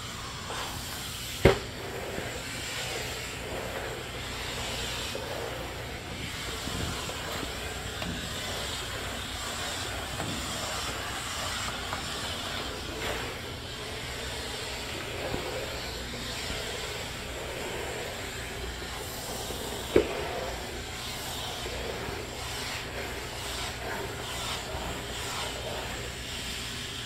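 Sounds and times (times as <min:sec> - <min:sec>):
steam cleaner hissing: 0:00.0 - 0:27.0.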